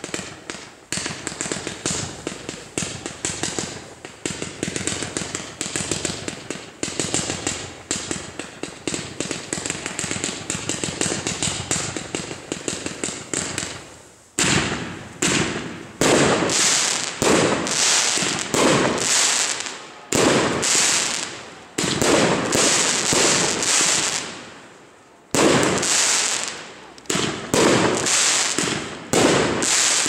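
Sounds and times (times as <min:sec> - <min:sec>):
loud firework bursts: 0:00.0 - 0:30.0.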